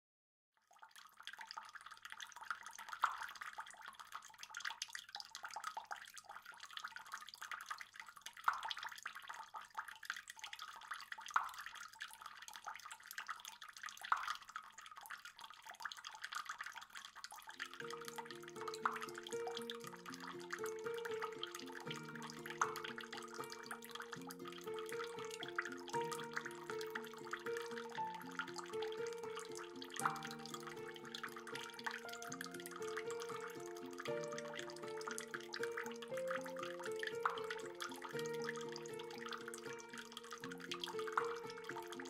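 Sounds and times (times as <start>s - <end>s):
water trickling and dripping: 0.6s - 42.0s.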